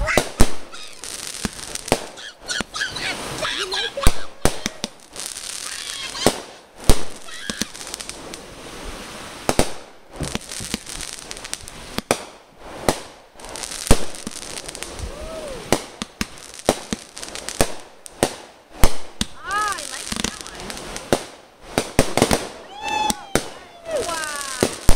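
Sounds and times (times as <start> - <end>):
fireworks bangs: 0.0 - 24.9
fireworks crackling hiss: 0.0 - 24.9.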